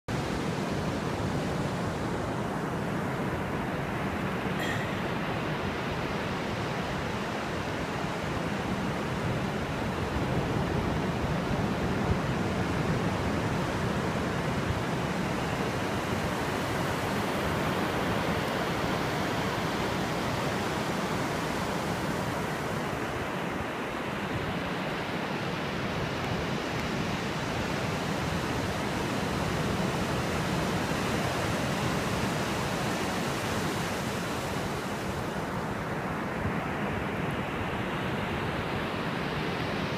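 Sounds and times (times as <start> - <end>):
surf washing on sandy beach: 0.1 - 39.9.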